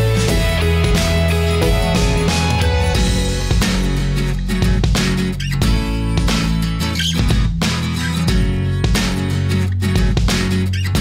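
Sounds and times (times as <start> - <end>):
bass line: 0.0 - 11.0
guitar background music: 0.0 - 11.0.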